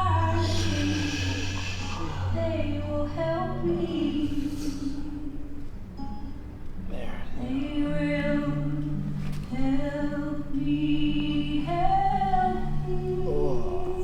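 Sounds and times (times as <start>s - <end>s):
low sustained tone: 0.0s - 6.3s, 7.4s - 14.0s
long held sung notes: 0.0s - 6.4s, 7.4s - 14.0s.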